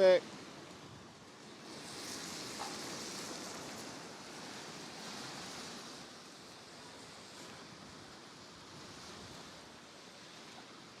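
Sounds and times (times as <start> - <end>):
tyres hissing on wet street: 0.0 - 11.0.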